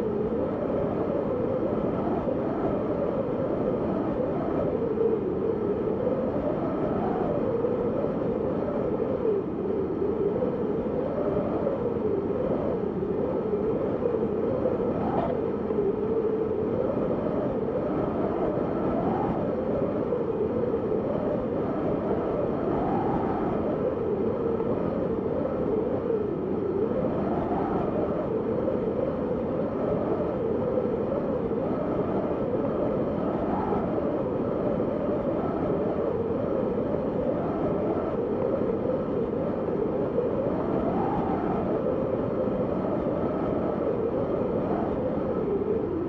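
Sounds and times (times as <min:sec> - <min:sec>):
wind howling and whistling: 0:00.0 - 0:46.0.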